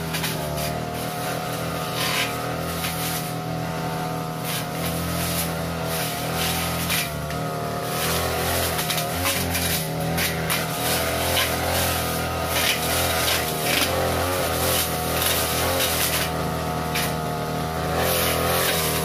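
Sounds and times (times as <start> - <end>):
blade swishes cutting grass: 0.0 - 19.0
brush cutter engine at high revs: 0.0 - 19.0.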